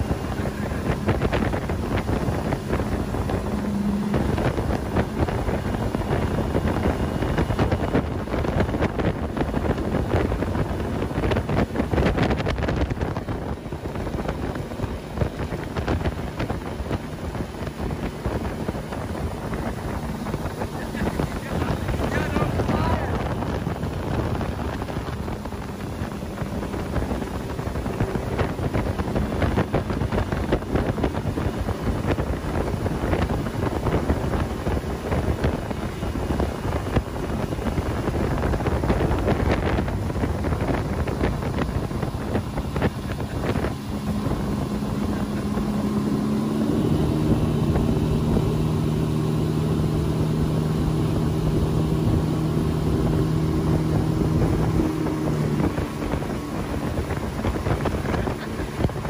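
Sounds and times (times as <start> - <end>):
outboard motor running: 0.0 - 59.0
rush of boat wake: 0.0 - 59.0
wind buffeting microphone: 0.0 - 59.0.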